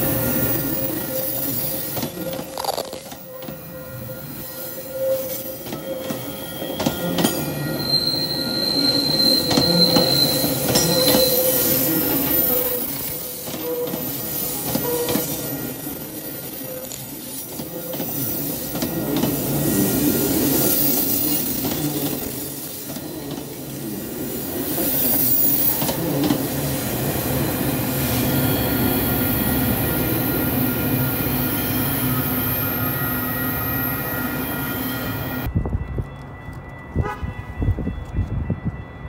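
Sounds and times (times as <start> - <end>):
wheels squealing on rails: 0.0 - 35.8.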